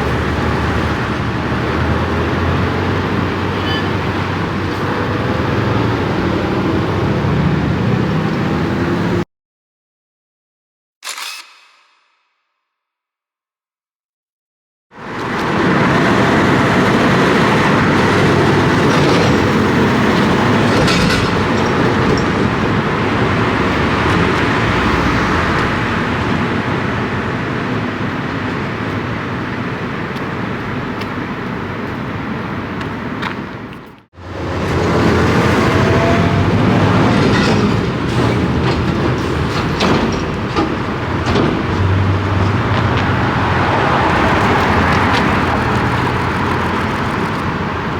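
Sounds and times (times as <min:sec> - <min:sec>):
large vehicle rumbling past: 0:00.0 - 0:09.2, 0:15.0 - 0:31.7, 0:34.2 - 0:47.9.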